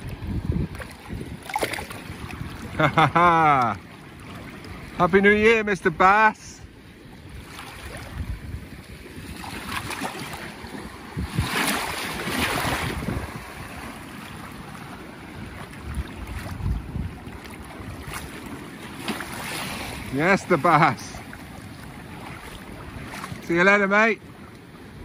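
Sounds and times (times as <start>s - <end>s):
wind buffeting microphone: 0.0s - 3.5s, 4.2s - 23.6s
shallow surf lapping: 0.0s - 25.0s.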